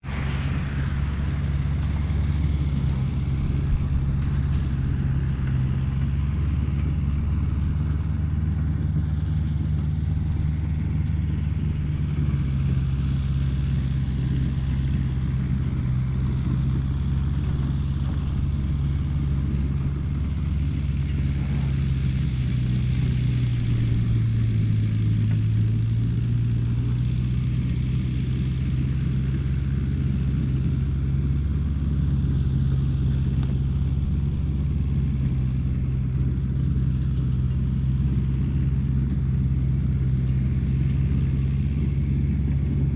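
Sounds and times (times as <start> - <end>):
tractor engine droning: 0.0 - 42.9.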